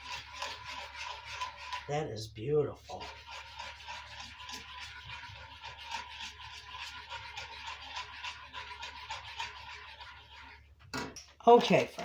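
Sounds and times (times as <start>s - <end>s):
whisk scraping sauce in skillet: 0.0s - 12.0s.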